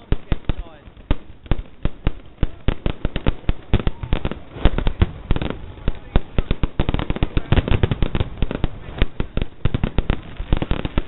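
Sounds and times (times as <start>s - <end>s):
firecrackers banging: 0.0s - 11.0s
voices: 1.9s - 11.0s.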